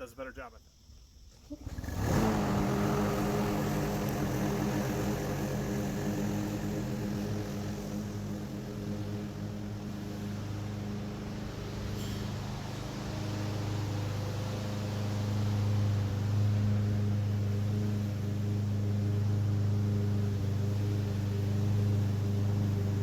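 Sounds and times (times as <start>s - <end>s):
lawn mower engine running: 1.3s - 23.0s.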